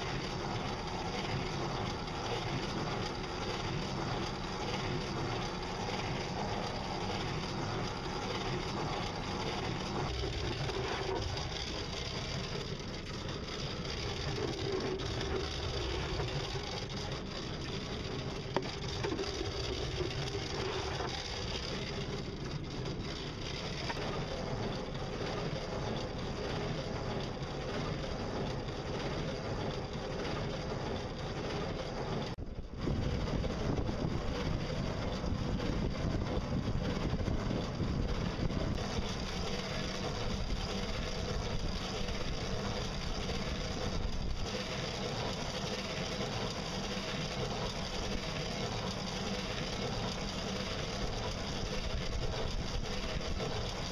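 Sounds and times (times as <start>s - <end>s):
boat drive mechanical drone: 0.0s - 53.9s
water noise: 0.0s - 53.9s.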